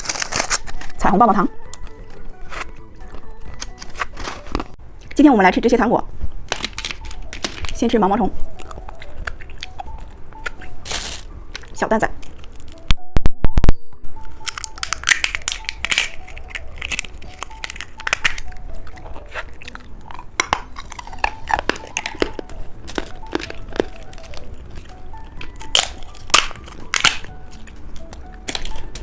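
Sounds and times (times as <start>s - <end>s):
crunching and chewing candy: 0.0s - 5.2s, 6.3s - 12.9s, 14.3s - 29.0s
soft background music: 0.0s - 29.0s.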